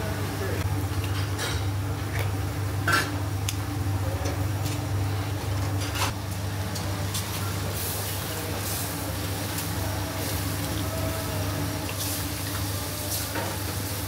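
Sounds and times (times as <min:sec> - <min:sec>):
kitchen equipment humming: 0:00.0 - 0:14.0.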